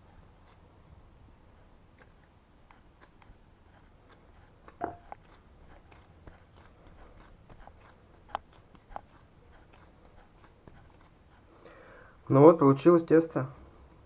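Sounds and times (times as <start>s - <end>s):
hands kneading dough: 0.0s - 12.8s.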